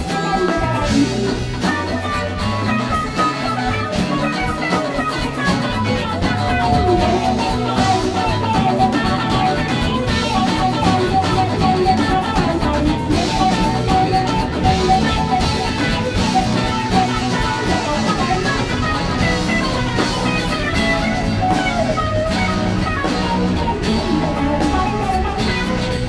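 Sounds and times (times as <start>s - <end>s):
drum kit: 0.0s - 26.0s
electric guitar: 0.0s - 26.0s.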